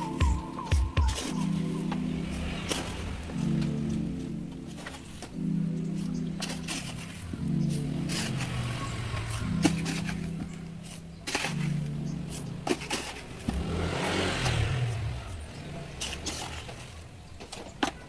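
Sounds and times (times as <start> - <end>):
background music with low notes: 0.0 - 18.0
handling clicks and scrapes: 0.0 - 18.0.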